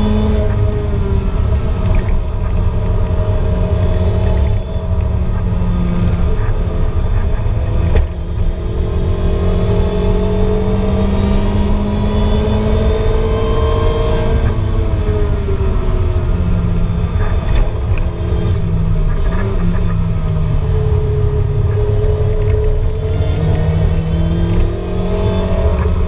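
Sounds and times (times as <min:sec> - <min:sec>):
car engine at racing revs: 0:00.0 - 0:26.0
tyre and road noise: 0:00.0 - 0:26.0.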